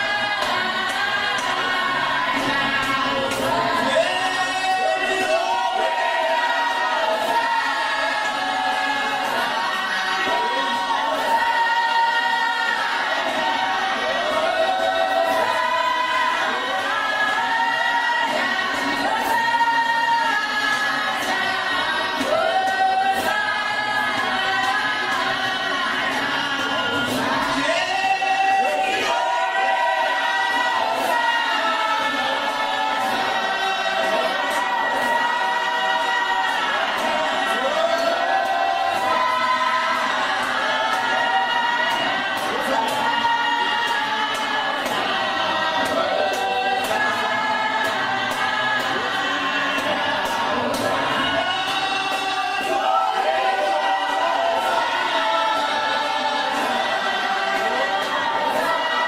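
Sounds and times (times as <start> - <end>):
women singing a hymn a cappella: 0.0 - 59.0.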